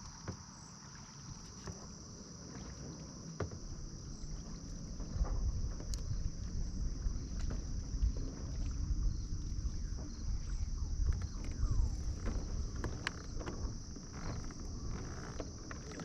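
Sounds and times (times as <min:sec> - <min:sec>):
water and wind rushing: 0:00.0 - 0:16.0.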